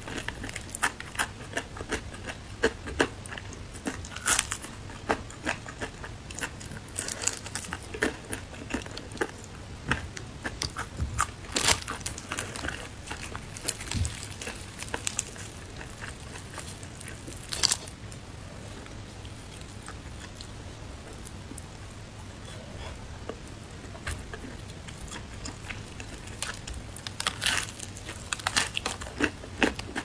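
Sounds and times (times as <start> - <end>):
fried chicken crunching: 0.0 - 18.0, 22.5 - 30.0.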